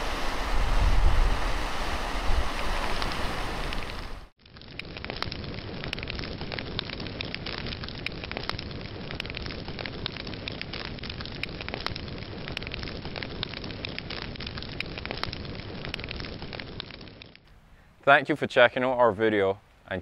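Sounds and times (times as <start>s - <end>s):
burning wood crackling: 0.0s - 20.0s.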